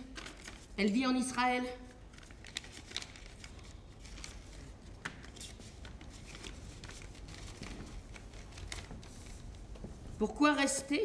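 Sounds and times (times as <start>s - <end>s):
paper rustling: 0.0s - 1.0s, 2.0s - 10.2s.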